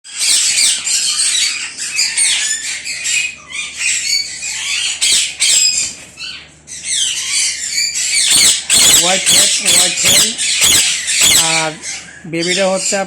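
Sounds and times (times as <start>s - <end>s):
parakeets screeching and chattering: 0.1s - 13.0s.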